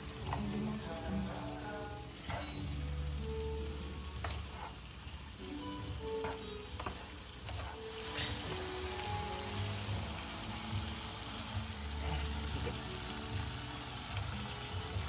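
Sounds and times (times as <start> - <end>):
background music: 0.0 - 15.0
stew sizzling in a pan: 0.0 - 15.0
wooden spatula stirring: 0.0 - 15.0.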